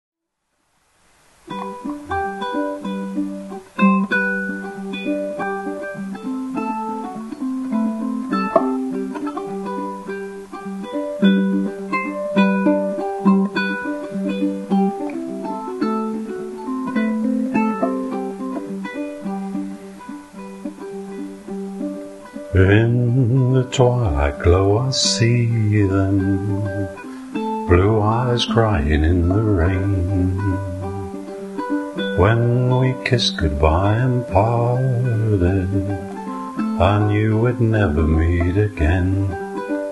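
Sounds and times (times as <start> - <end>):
solo ukulele playing: 1.2 - 39.9.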